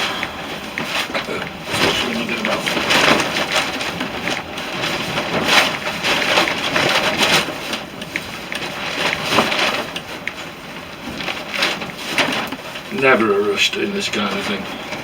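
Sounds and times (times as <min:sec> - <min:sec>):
dry tinder crackling and rustling: 0:00.0 - 0:15.0.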